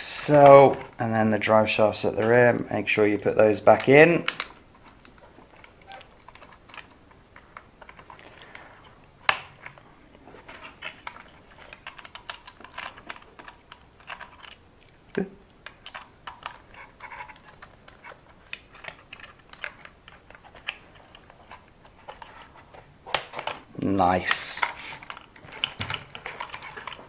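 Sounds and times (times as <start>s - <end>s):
small plastic parts clicking and rattling: 2.2s - 27.0s.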